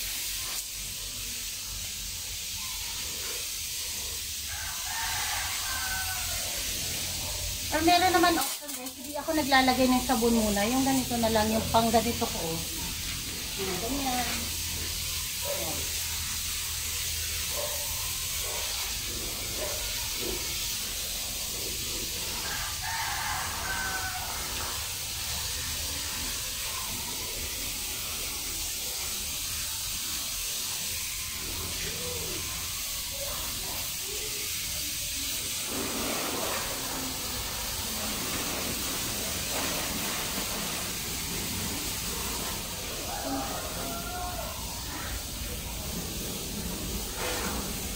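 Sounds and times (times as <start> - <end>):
hose spray hissing on car: 0.0 - 47.9.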